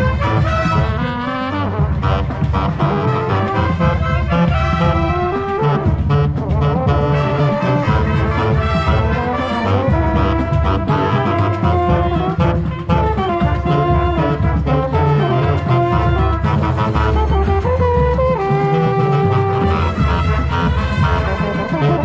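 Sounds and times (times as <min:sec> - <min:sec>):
brass horns playing: 0:00.0 - 0:22.0
marching band playing: 0:00.0 - 0:22.0
pulsing low bass: 0:00.0 - 0:22.0.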